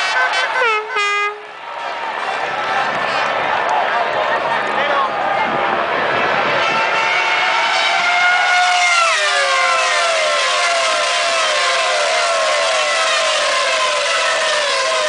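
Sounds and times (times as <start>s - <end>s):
racing car engines screaming: 1.9s - 15.0s.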